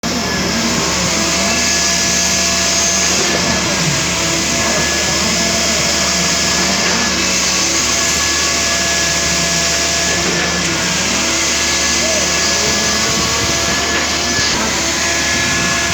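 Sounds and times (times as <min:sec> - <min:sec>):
construction machinery droning: 0:00.0 - 0:15.9.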